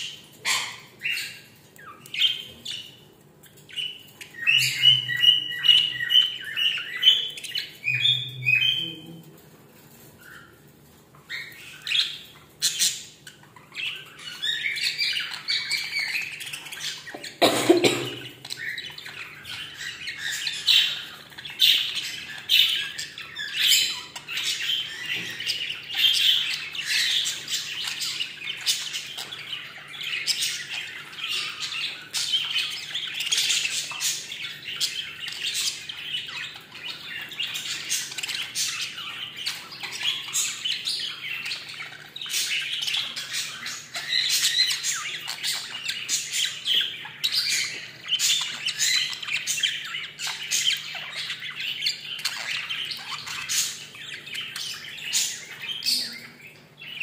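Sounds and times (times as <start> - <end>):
budgerigars chirping: 0.0 - 9.1, 10.2 - 57.0.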